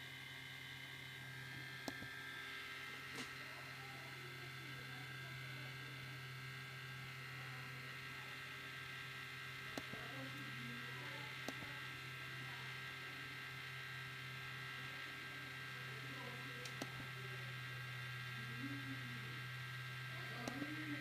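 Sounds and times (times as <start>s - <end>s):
laptop electrical buzz and whine: 0.0s - 21.0s.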